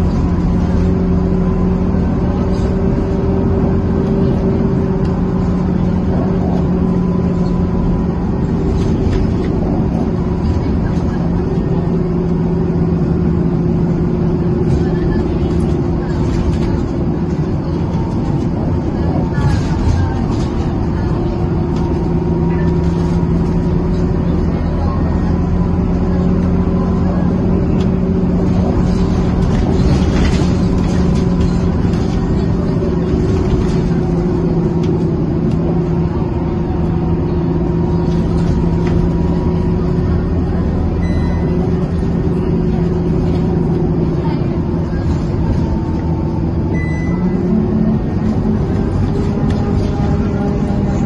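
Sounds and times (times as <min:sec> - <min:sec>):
bus engine and road noise: 0:00.0 - 0:51.0
cooling fan drone: 0:00.0 - 0:51.0.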